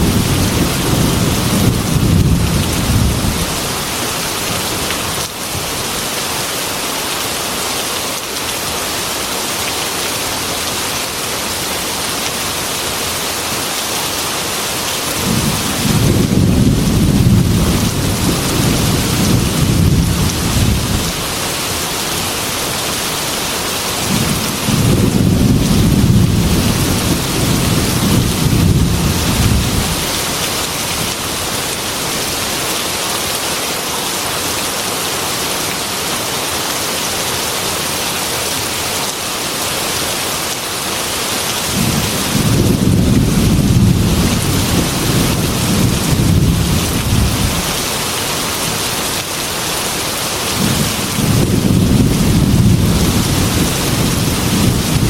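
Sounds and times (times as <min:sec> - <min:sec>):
heavy rain on glass window: 0:00.0 - 0:35.0, 0:39.0 - 0:55.0.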